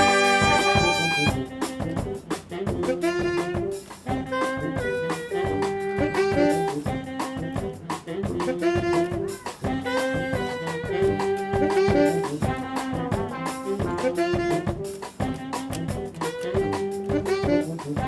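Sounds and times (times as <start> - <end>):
brass horns playing chords: 0.0 - 18.0
drum kit steady beat: 0.0 - 18.0
tuba bass line: 0.0 - 18.0.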